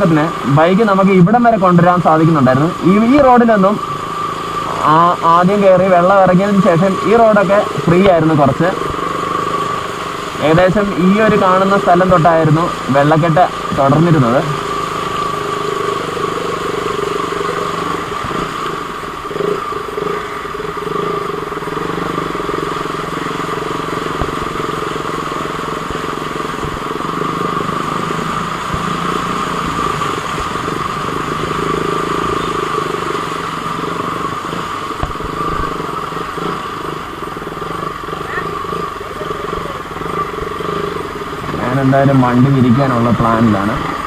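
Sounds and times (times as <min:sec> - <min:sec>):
motorcycle engine running steadily: 0:00.0 - 0:44.0.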